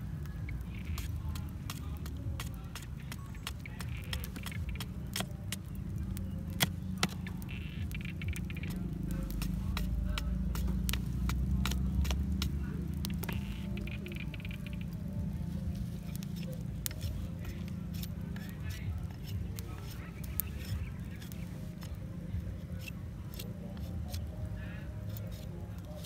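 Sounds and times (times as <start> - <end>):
steady low rumble: 0.0 - 25.8
knife chopping wooden stick: 0.6 - 15.0, 15.8 - 25.9.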